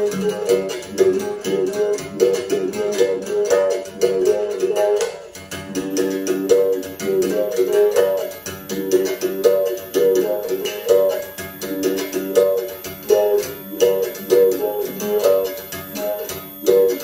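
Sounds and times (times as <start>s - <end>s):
strummed string instrument: 0.0s - 17.0s.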